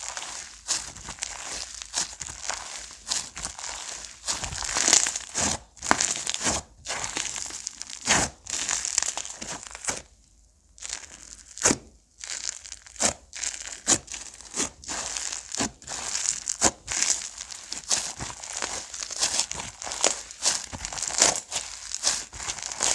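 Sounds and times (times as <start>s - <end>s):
slime crackling and popping: 0.0s - 10.1s, 10.8s - 22.9s.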